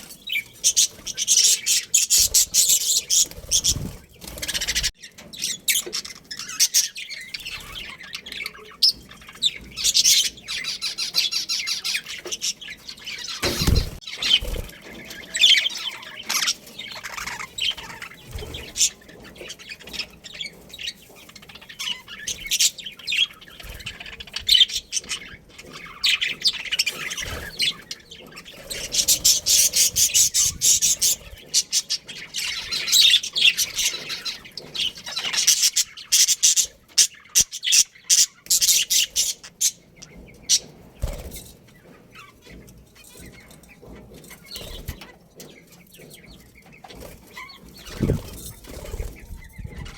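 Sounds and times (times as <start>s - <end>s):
budgerigars chirping and chattering: 0.0s - 49.9s.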